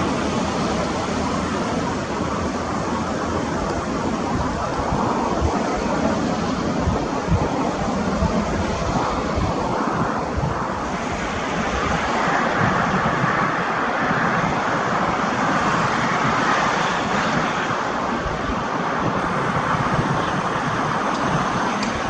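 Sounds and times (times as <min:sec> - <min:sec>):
airliner engines rushing: 0:00.0 - 0:22.0.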